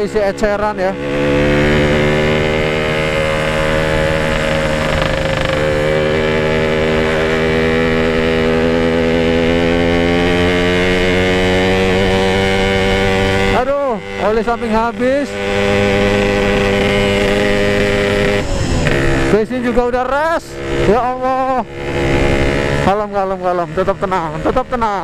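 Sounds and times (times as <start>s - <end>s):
two-stroke motorcycle engine cruising: 0.0s - 25.0s.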